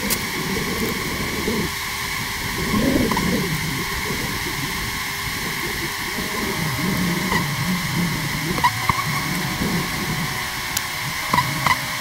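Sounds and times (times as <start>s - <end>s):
bee smoker bellows puffs: 0.0s - 12.0s
bees humming: 0.0s - 12.0s
steady hiss: 0.0s - 12.0s.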